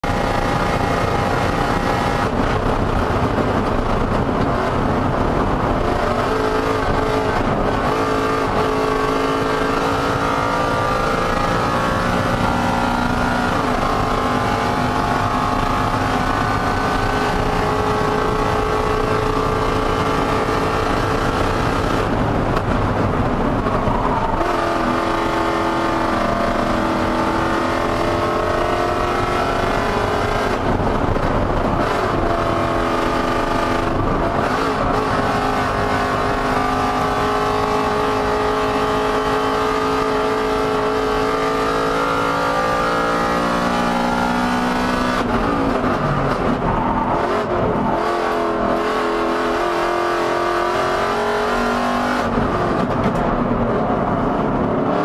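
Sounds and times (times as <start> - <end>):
race car engine at high revs: 0.0 - 55.0
wind and road noise: 0.0 - 55.0.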